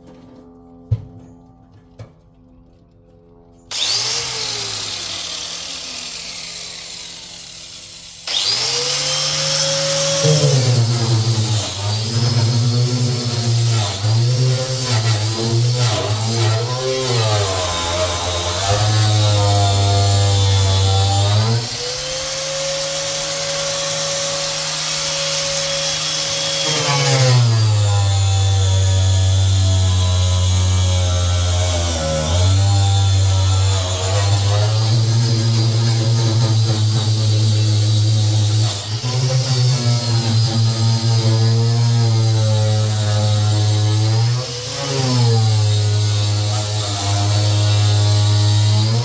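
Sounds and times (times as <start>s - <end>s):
electric power tool whining: 3.7s - 49.0s.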